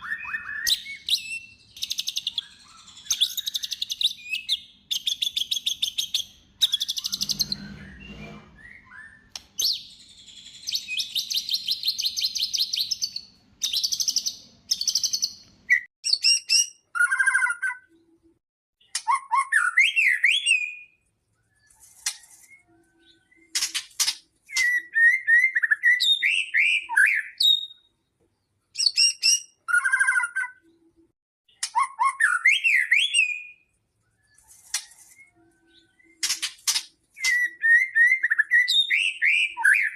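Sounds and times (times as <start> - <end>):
songbird trills and whistles: 0.0 - 18.0, 18.8 - 23.8, 24.4 - 28.0, 28.8 - 30.9, 31.5 - 39.9.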